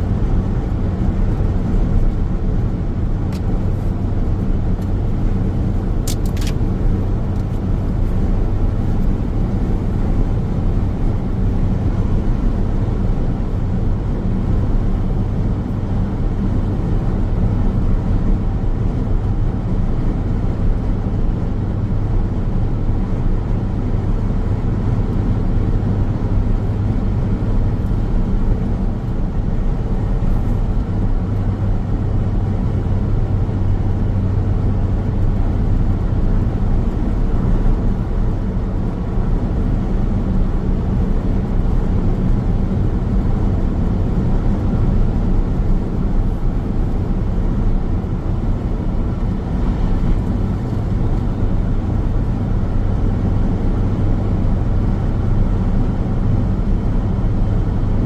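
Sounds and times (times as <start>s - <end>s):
car tyre and road noise: 0.0s - 58.0s.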